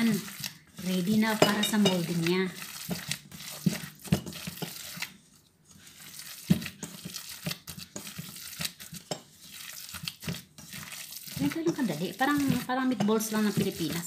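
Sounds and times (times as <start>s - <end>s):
hands squishing meat mixture: 0.0s - 14.0s
plastic gloves crinkling and clicking: 0.0s - 14.0s.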